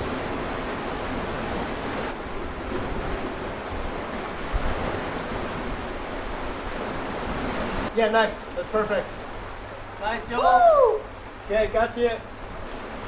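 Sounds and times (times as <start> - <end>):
sea surf rushing: 0.0 - 13.0
wind: 0.0 - 13.0.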